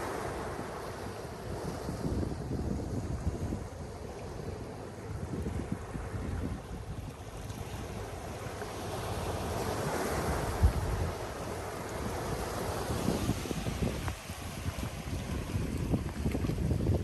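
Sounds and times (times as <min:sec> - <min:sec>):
sea waves washing onto beach: 0:00.0 - 0:17.0
wind buffeting microphone: 0:01.2 - 0:17.0.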